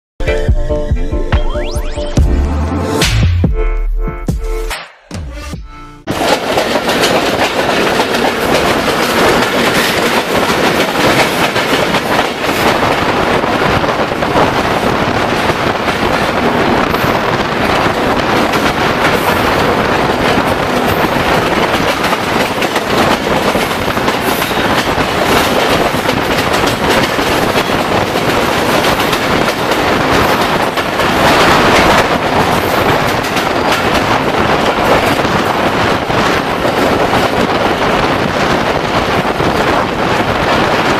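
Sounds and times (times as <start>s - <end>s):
train rumble and rush: 0.2s - 40.9s
wheels clacking over rail joints: 6.1s - 40.9s.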